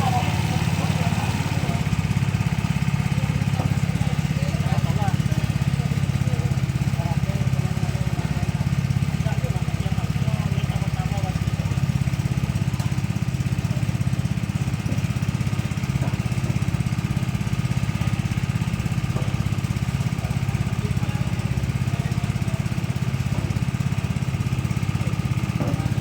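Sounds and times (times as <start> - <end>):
small engine running steadily: 0.0 - 26.0.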